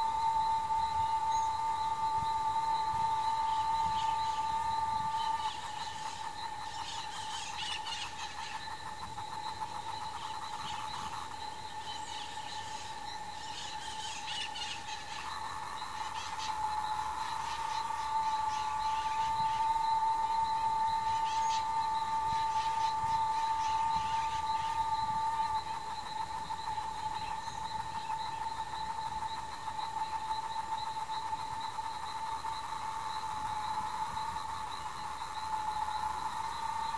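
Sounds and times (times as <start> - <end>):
insect drone: 0.0 - 36.9.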